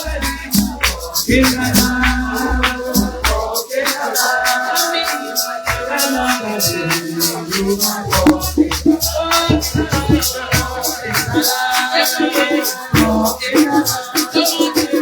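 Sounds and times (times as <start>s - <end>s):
upbeat music with fast percussion: 0.0s - 15.0s.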